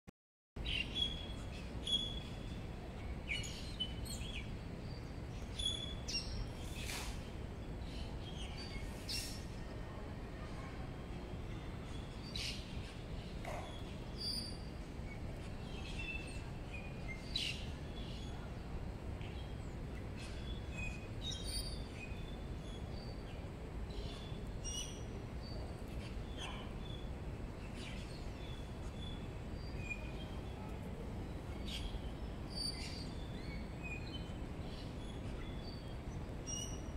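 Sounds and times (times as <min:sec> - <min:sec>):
low outdoor background rumble: 0:00.6 - 0:36.9.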